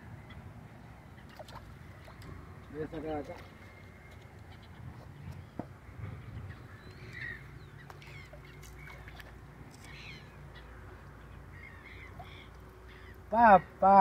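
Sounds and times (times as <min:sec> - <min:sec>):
low steady rumble: 0:00.0 - 0:13.8
birds chirping and calling: 0:00.2 - 0:14.0.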